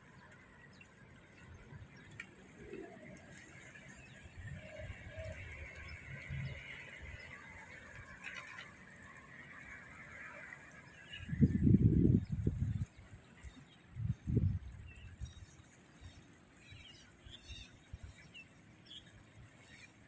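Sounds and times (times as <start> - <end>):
steady traffic hiss: 0.0 - 20.0.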